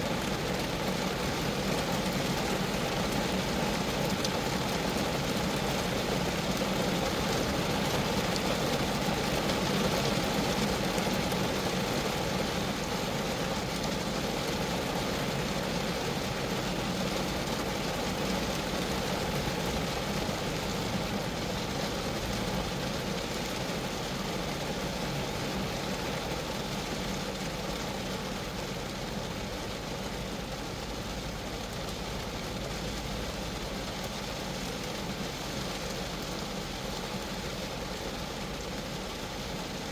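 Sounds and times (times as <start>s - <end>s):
rain pattering on a car: 0.0s - 39.9s.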